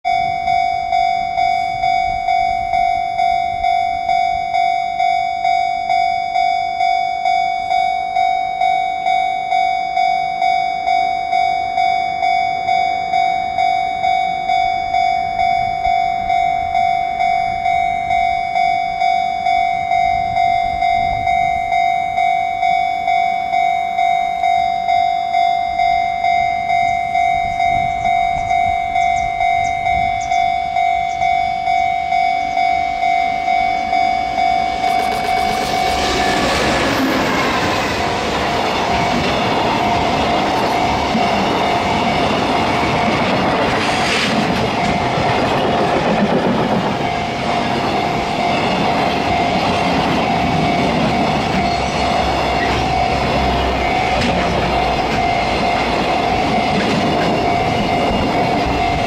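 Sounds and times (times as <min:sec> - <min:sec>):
level crossing warning bell: 0:00.0 - 0:59.0.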